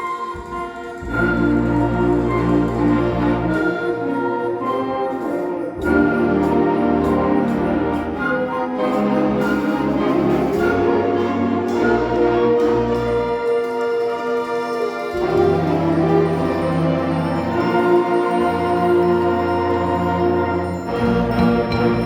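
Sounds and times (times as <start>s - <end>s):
symphonic band holding chords: 0.0s - 22.0s.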